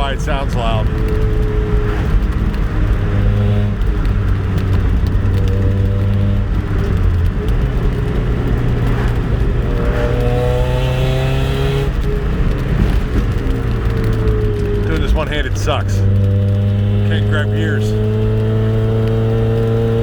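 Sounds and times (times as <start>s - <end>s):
car engine revving while driving: 0.0s - 20.0s.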